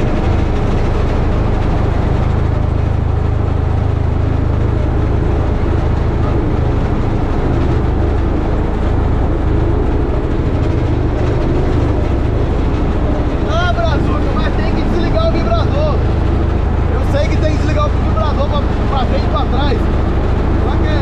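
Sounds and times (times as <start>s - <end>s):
roller engine rumbling: 0.0s - 21.0s.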